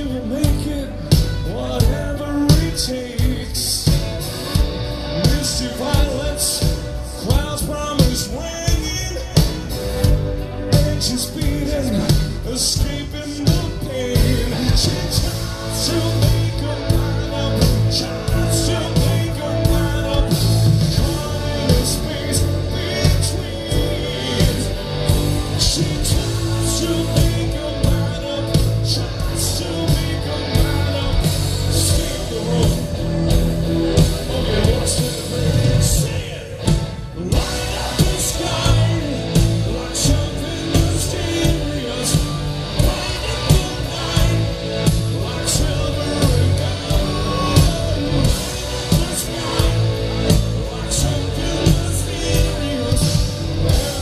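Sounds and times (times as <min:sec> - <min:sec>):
drums keeping a steady beat: 0:00.0 - 0:54.0
live rock band playing: 0:00.0 - 0:54.0
person singing: 0:05.0 - 0:54.0.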